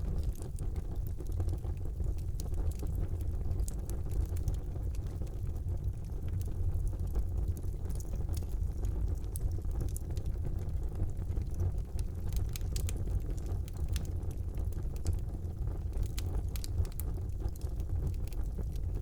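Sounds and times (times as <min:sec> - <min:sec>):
burning wood crackling and popping: 0:00.0 - 0:19.0
flames rumbling: 0:00.0 - 0:19.0.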